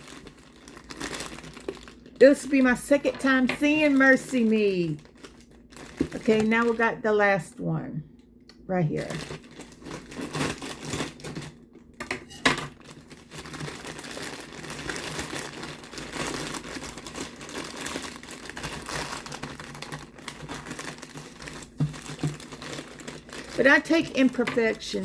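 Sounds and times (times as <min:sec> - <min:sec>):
package rustling and crinkling: 0:00.0 - 0:06.9, 0:08.9 - 0:25.0.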